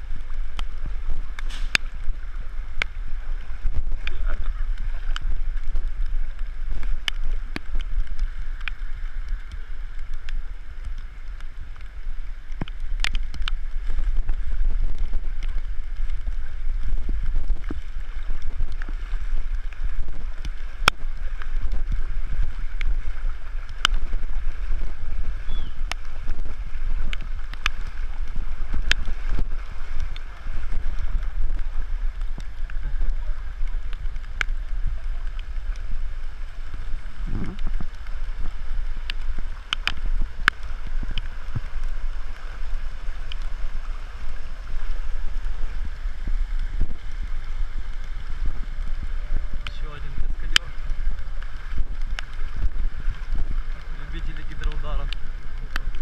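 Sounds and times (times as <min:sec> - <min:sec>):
floodwater sloshing and running: 0:00.0 - 0:56.0
wind rumble on microphone: 0:00.0 - 0:56.0.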